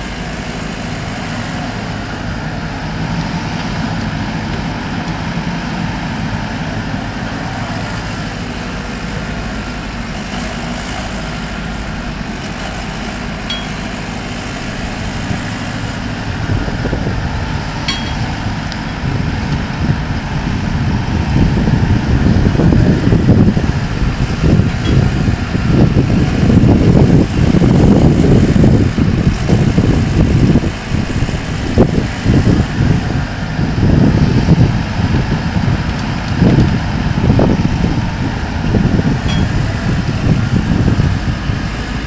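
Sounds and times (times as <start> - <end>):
diesel engine running: 0.0 - 42.0
hydraulic working noise: 0.0 - 42.0.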